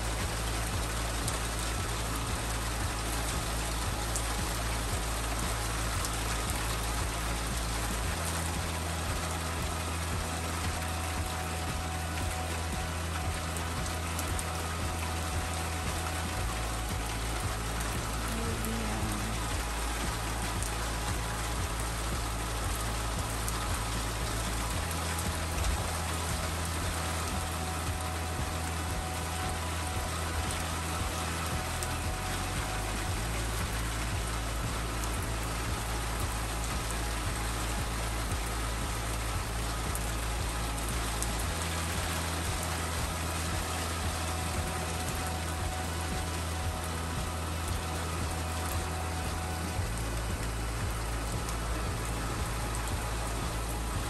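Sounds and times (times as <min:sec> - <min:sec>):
steady low hum: 0:00.0 - 0:54.0
steady rain falling: 0:00.0 - 0:54.0.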